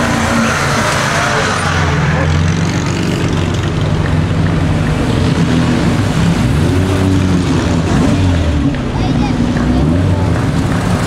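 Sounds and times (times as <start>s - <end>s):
sports car engines passing: 0.0s - 11.0s.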